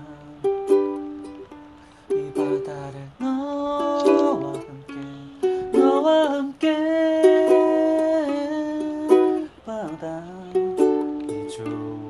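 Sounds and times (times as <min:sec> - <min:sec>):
plucked ukulele: 0:00.0 - 0:12.0
sliding held melody line: 0:00.0 - 0:12.0.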